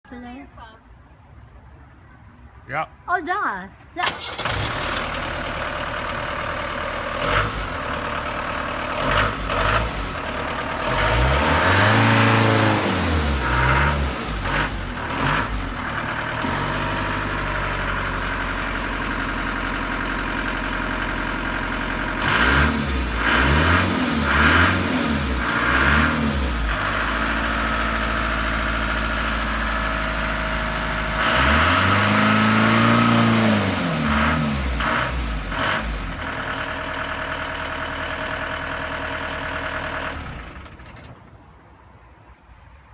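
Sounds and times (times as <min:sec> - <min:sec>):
van engine idling and revving: 0:04.0 - 0:41.9.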